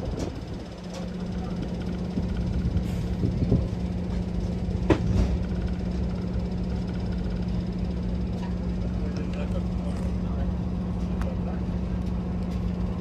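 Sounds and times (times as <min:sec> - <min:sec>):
train engine humming: 0:00.0 - 0:13.0.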